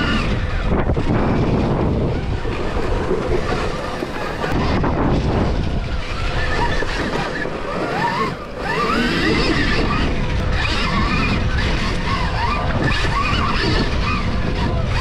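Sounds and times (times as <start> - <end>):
electric motor whine: 0.0 - 15.0
wind buffeting microphone: 0.0 - 15.0.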